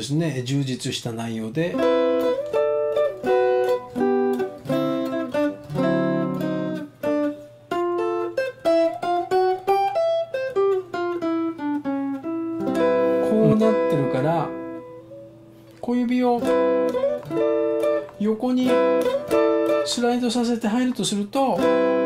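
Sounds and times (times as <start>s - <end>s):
clean electric guitar jazz phrase: 1.7s - 20.2s, 21.6s - 22.0s.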